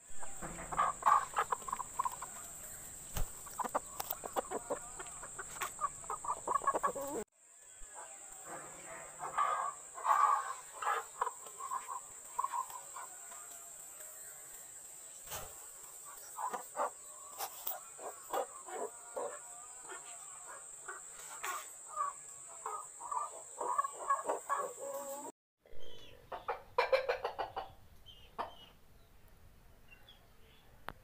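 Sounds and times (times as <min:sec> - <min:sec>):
chickens clucking and squawking: 0:00.1 - 0:14.7, 0:15.3 - 0:28.8.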